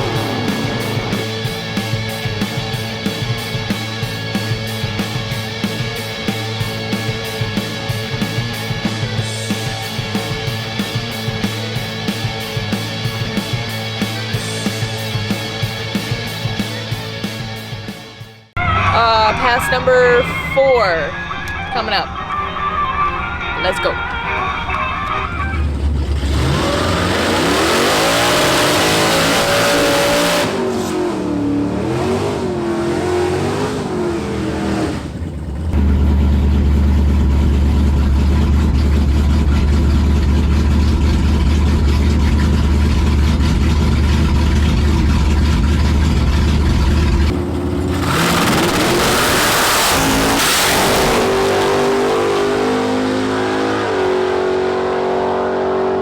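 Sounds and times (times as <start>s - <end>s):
drag car engine revving: 0.0s - 17.8s, 18.6s - 56.0s.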